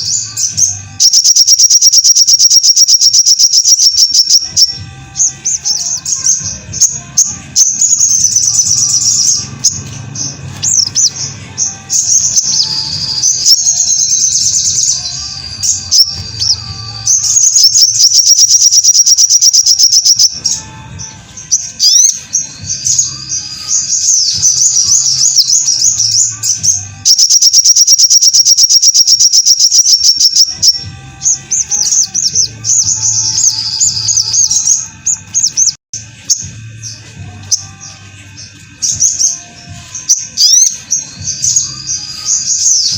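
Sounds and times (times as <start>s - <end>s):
bird chirps and trills: 0.0s - 42.9s.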